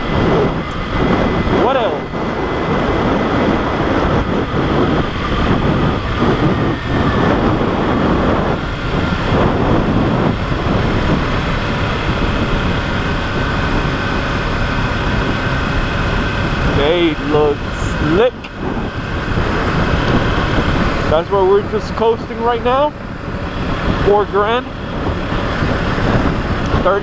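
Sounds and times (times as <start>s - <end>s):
motorcycle engine running: 0.0s - 27.0s
riding noise rush: 0.0s - 27.0s.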